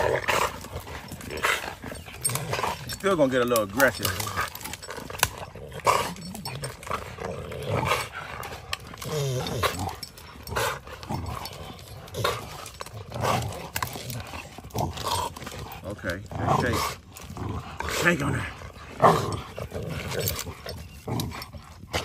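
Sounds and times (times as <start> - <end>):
chain collars rattling: 0.0 - 22.0
dogs growling: 0.0 - 22.0.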